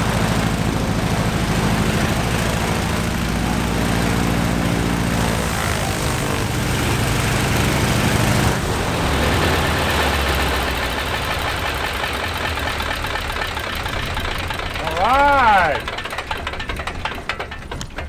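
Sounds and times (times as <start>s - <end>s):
radial aircraft engine running: 0.0s - 18.0s.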